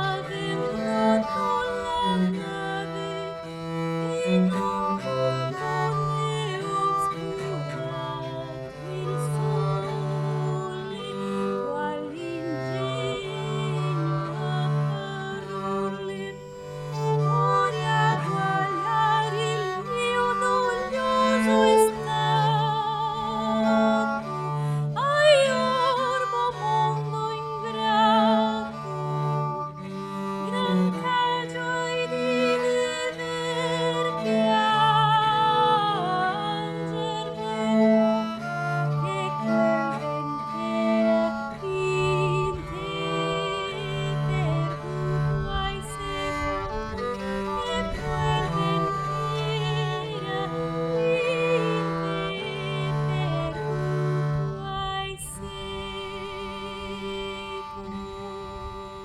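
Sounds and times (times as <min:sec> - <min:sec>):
low bowed string instrument: 0:00.0 - 0:59.0
woman singing with vibrato: 0:00.0 - 0:59.0.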